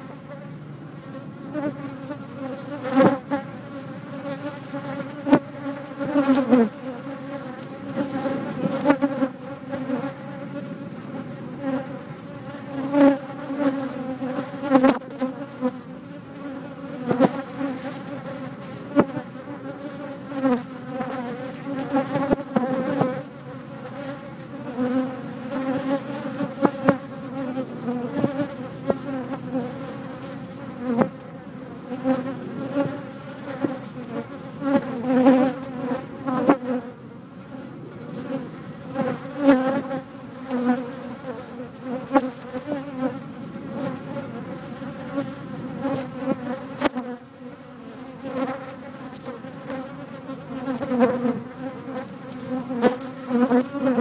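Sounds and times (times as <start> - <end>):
bees buzzing close to microphone: 0.0 - 54.0.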